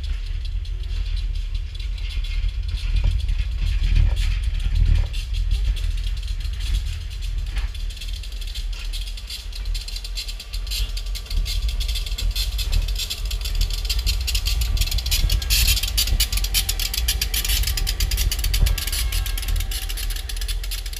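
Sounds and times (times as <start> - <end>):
railroad cars rumbling past: 0.0 - 20.9
wheels clattering and rattling: 0.0 - 20.9.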